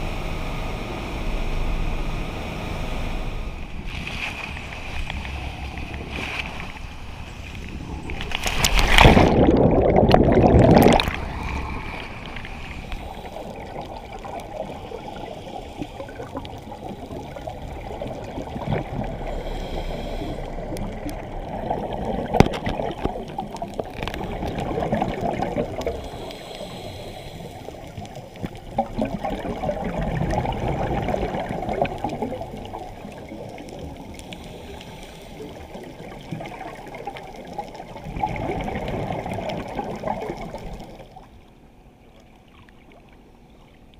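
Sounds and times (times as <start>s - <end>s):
churning water and bubbles: 0.0s - 43.9s
muffled underwater wash: 0.0s - 43.9s
scuba regulator bubbles gurgling: 3.5s - 41.4s.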